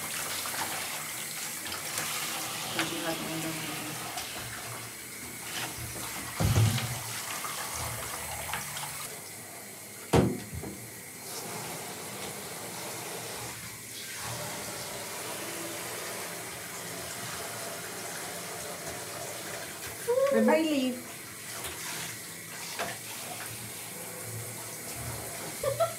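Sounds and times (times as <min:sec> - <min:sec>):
tap water running: 0:00.0 - 0:25.9.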